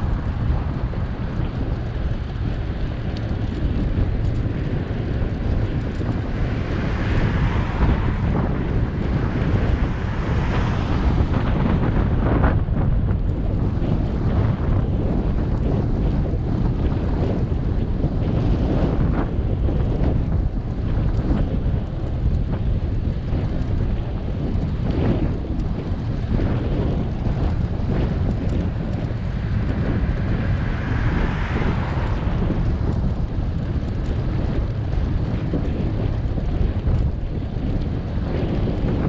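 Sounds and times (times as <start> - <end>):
broad rush of noise: 0.0 - 39.0
wind buffeting microphone: 0.0 - 39.0.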